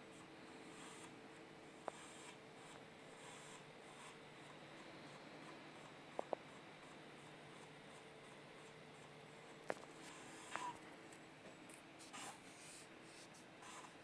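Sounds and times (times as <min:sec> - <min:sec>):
faint electronic hum: 0:00.0 - 0:14.0.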